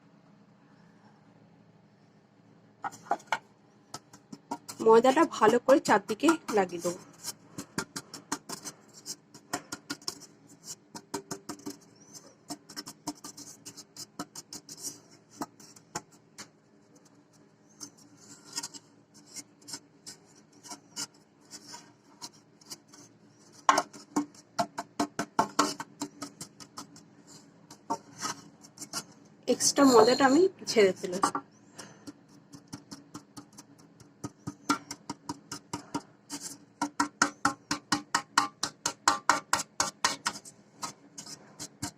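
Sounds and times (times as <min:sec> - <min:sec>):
flour tapping in cake tin: 0:02.8 - 0:29.3, 0:31.0 - 0:41.9.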